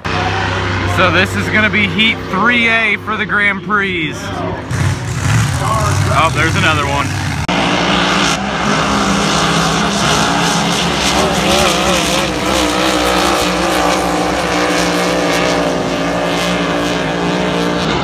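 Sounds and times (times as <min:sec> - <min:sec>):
race boat engines droning: 0:00.0 - 0:18.0.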